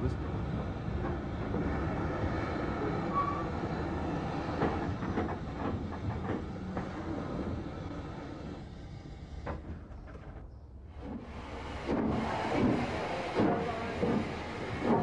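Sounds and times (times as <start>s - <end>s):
steam train rumble: 0.0s - 15.0s
train clanks and knocks: 0.0s - 15.0s.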